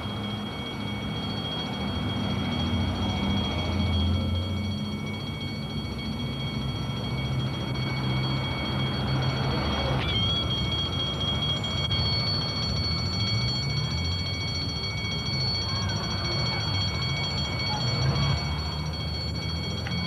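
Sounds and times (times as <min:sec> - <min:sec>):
high-pitched whine: 0:00.0 - 0:20.0
street traffic: 0:00.0 - 0:20.0.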